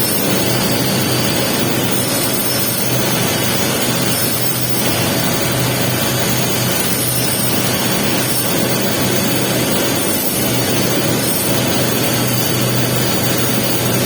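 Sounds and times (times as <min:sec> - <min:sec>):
low electrical hum: 0:00.0 - 0:14.0
welding arc crackling and hissing: 0:00.0 - 0:14.0.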